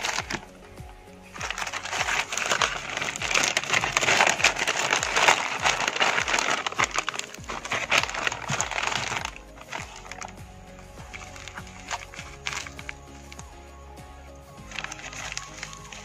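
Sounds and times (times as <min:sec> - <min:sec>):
plastic mailer bag tearing and crinkling: 0:00.0 - 0:13.6, 0:14.6 - 0:16.0
background music: 0:00.0 - 0:16.0.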